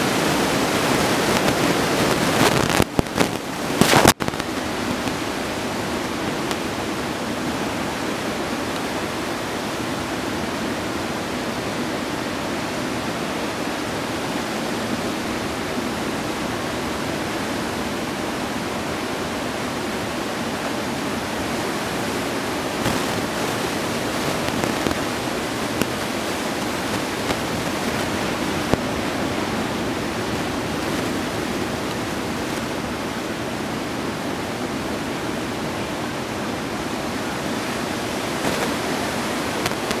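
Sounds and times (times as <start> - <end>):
ocean surf breaking: 0.0 - 40.0.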